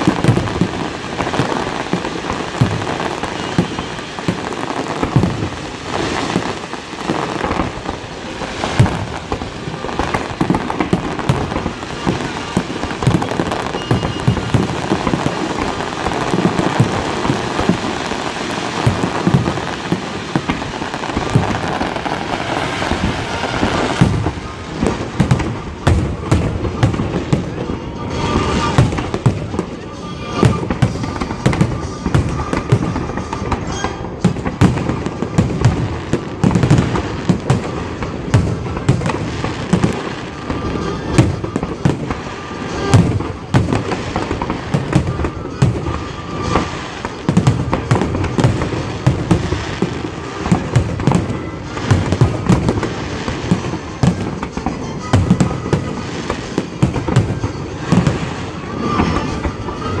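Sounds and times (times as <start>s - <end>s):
fireworks bangs and crackles: 0.0s - 60.0s.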